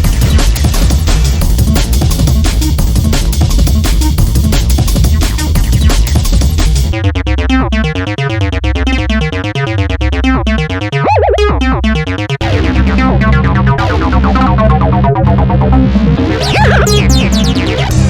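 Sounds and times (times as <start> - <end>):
electronic music with synthesizer: 0.0 - 18.0.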